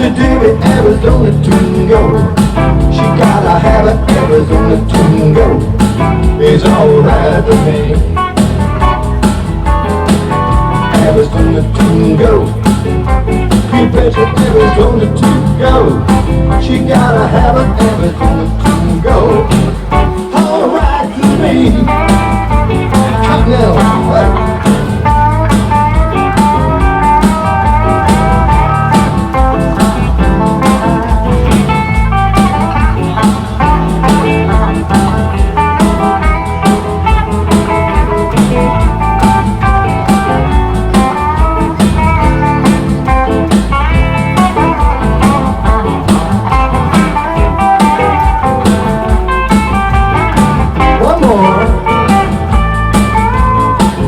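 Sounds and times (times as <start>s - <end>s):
bass and drums: 0.0s - 54.0s
lead guitar solo with bent notes: 0.0s - 54.0s.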